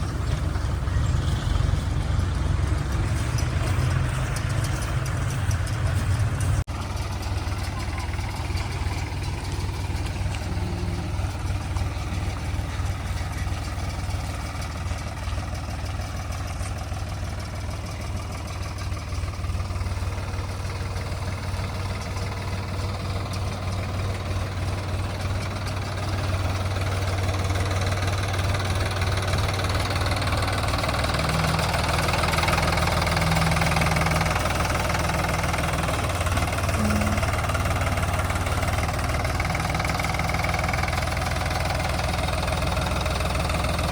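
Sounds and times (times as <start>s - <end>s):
backhoe diesel engine running: 0.0s - 43.9s.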